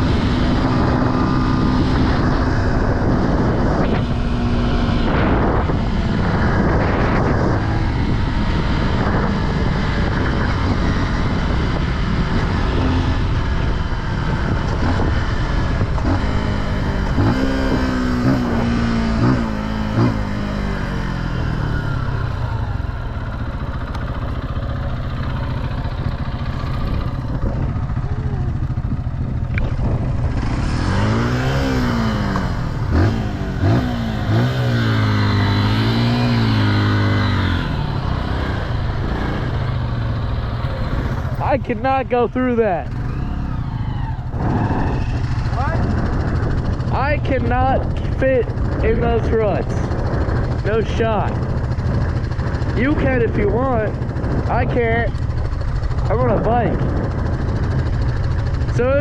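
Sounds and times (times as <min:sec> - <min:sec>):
low rumble of wind: 0:00.0 - 0:59.0
off-road engine revving: 0:00.0 - 0:59.0.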